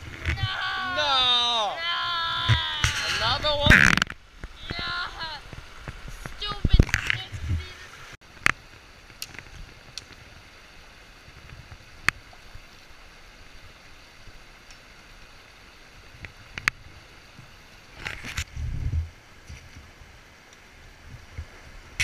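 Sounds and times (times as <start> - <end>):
stream flowing over stones: 0.0 - 22.0.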